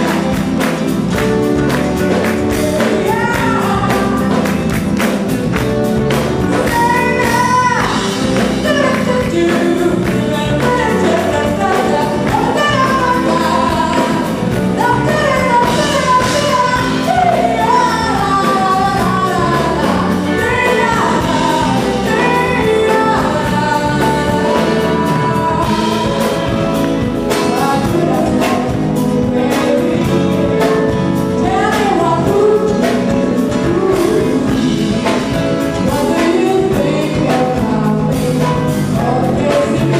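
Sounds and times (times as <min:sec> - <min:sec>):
live band playing soul song: 0:00.0 - 0:39.9
woman singing: 0:00.0 - 0:39.9.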